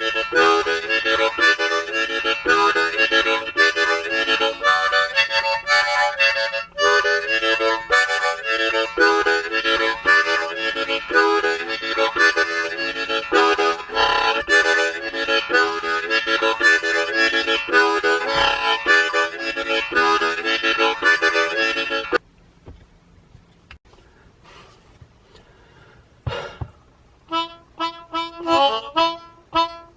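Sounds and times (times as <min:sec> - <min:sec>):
harmonica rhythmic chords: 0:00.0 - 0:22.2, 0:27.2 - 0:29.9.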